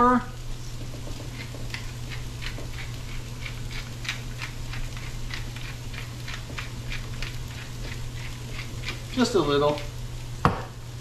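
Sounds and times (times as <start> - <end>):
pepper mill grinding and clicking: 1.1 - 10.0.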